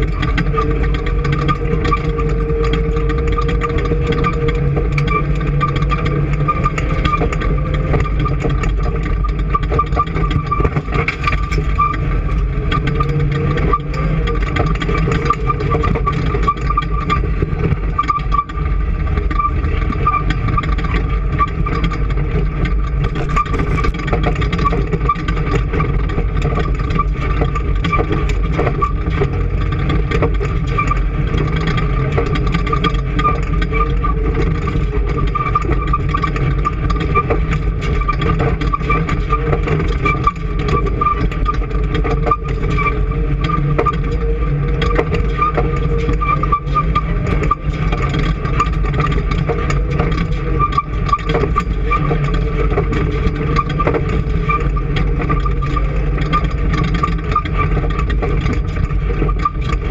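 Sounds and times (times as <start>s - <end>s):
constant high whine: 0.0s - 59.9s
engine running steadily: 0.0s - 59.9s.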